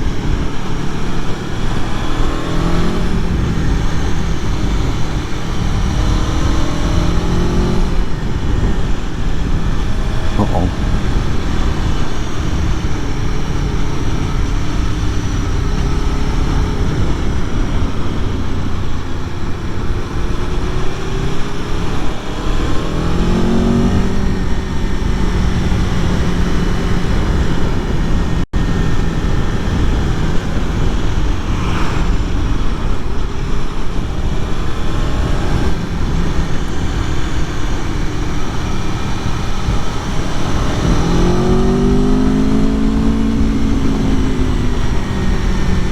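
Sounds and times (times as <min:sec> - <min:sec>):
motorcycle engine revving: 0:00.0 - 0:45.9
rumbling wind noise: 0:00.0 - 0:45.9.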